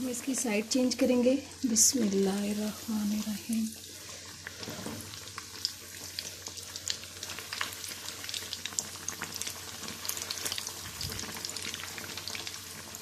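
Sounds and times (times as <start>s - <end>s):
hot oil sizzling and popping: 0.0s - 13.0s.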